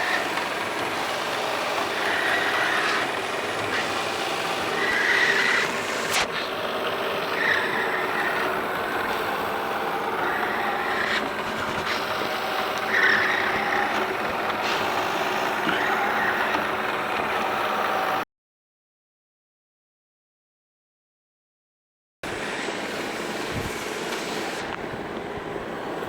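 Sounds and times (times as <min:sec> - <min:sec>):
robot vacuum whirring: 0:00.0 - 0:18.2, 0:22.3 - 0:26.0.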